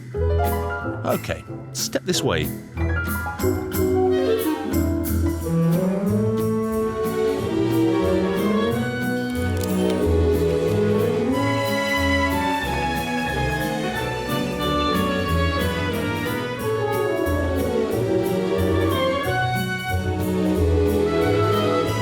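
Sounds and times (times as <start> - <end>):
upbeat orchestral music with brass: 0.0 - 22.0.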